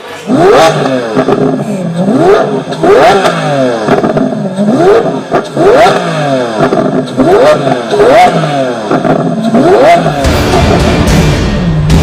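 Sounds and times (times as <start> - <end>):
engine revving in quick blips: 0.0 - 11.0.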